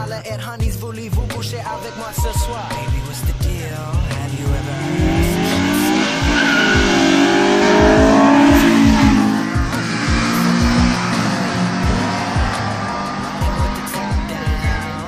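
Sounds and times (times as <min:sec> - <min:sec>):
hip hop bass beat: 0:00.0 - 0:15.0
car engine revving past: 0:01.6 - 0:15.0.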